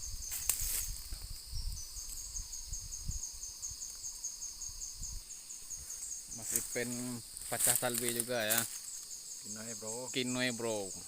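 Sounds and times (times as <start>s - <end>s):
insect chirping rapidly: 0.0s - 11.0s.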